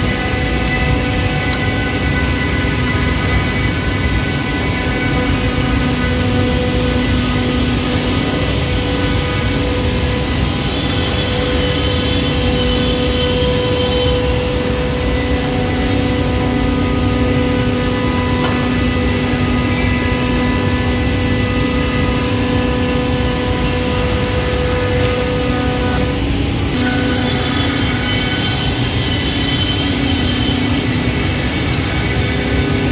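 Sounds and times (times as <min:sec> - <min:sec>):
scroll saw machine drone: 0:00.0 - 0:32.9.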